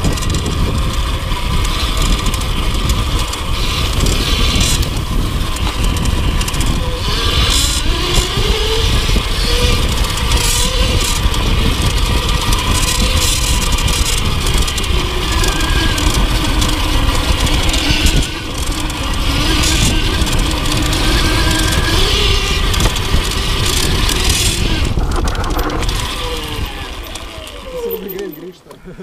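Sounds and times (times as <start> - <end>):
wind on microphone: 0.0 - 28.1
mountain bike rattling: 0.0 - 29.0
tyre noise: 0.0 - 29.0.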